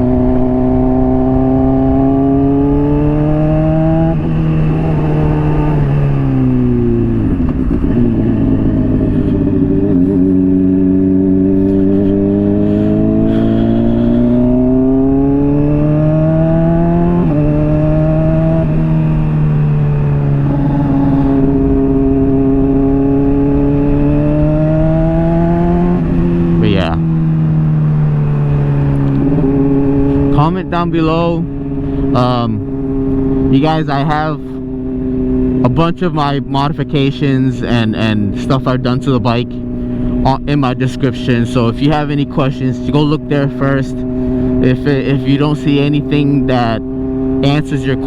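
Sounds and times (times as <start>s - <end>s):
motorcycle engine shifting gears: 0.0s - 48.0s.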